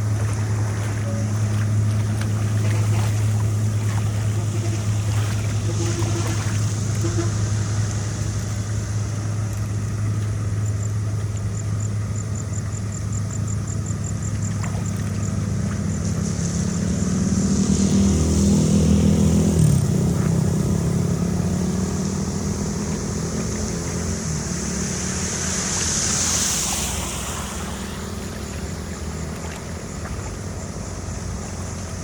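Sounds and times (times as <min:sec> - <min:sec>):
steady rushing noise: 0:00.0 - 0:11.0, 0:15.8 - 0:32.0
engine running: 0:00.0 - 0:32.0.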